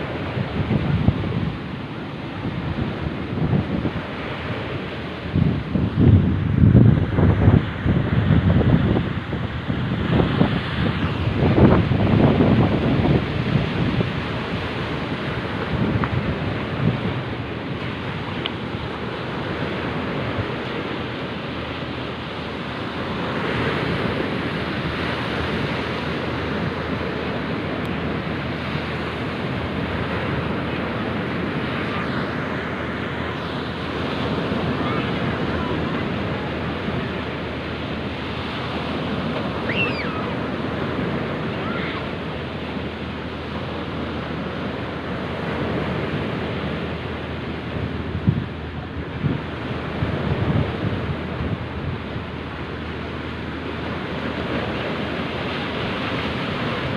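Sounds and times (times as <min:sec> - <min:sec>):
sea waves and surf washing: 0:00.0 - 0:56.9
wind buffeting microphone: 0:00.0 - 0:56.9.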